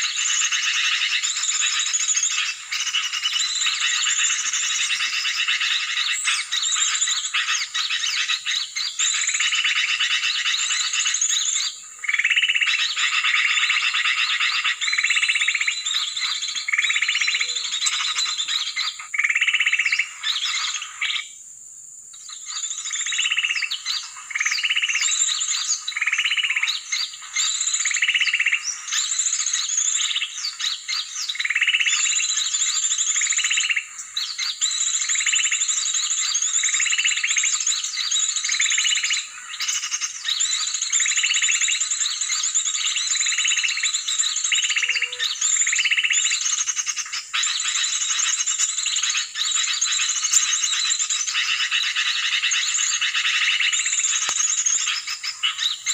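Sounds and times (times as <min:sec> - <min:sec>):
chorus of high chirping calls: 0:00.0 - 0:21.4, 0:22.1 - 0:55.9.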